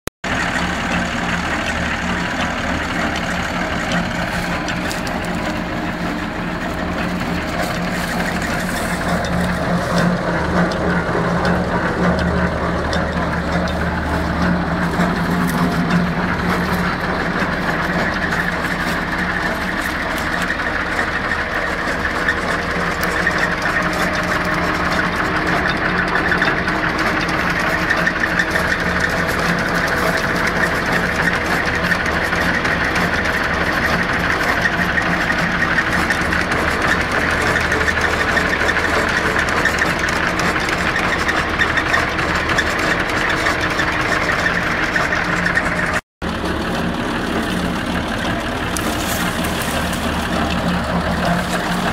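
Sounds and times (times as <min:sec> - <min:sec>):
tractor engine driving wood chipper: 0:00.2 - 0:51.9.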